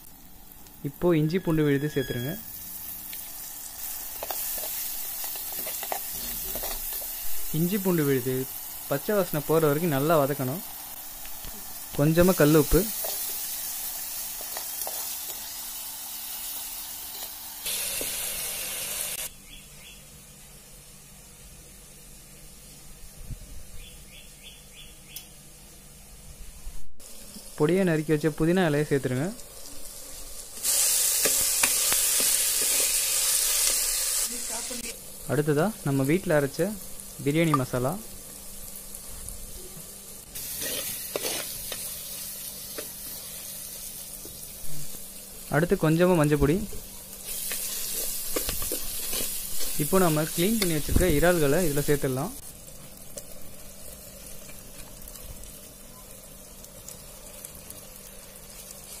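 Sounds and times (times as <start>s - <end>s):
vegetables sizzling in oil: 0.0s - 24.0s, 25.6s - 59.0s.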